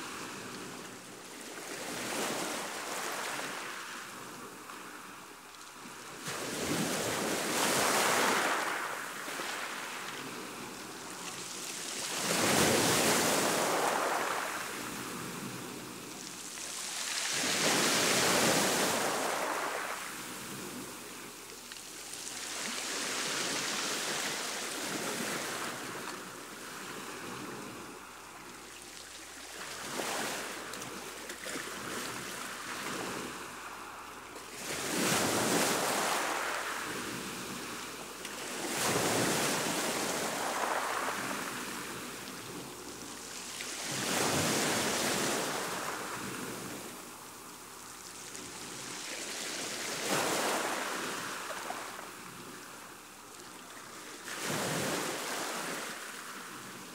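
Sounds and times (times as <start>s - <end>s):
sea surf washing on beach: 0.0s - 56.9s.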